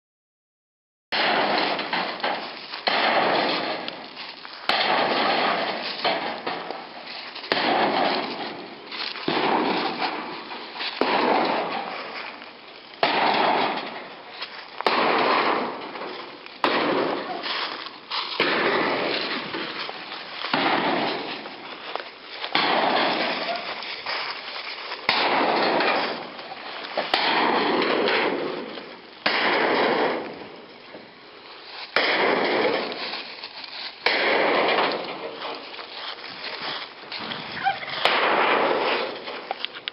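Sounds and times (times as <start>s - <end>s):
shed panels crashing and cracking: 1.1s - 31.1s, 31.7s - 39.9s.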